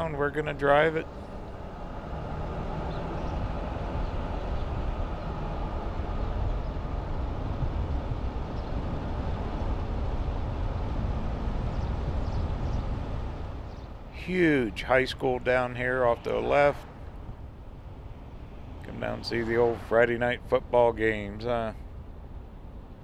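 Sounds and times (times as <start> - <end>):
vehicle driving on paved road: 0.0 - 23.0.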